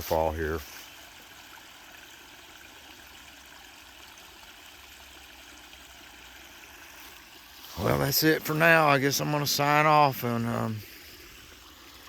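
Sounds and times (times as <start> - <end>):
waterfall and running stream: 0.0 - 12.0.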